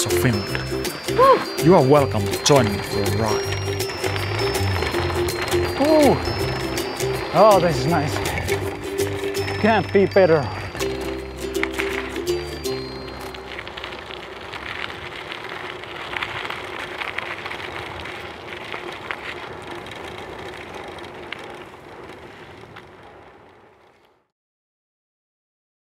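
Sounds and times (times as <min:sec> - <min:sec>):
bike tyre and wind noise: 0:00.0 - 0:24.3.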